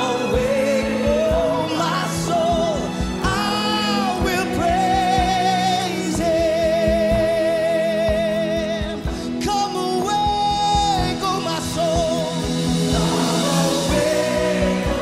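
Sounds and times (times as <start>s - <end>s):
band playing chords: 0.0s - 15.0s
person singing with vibrato: 0.0s - 15.0s
steady drum beat: 0.0s - 15.0s.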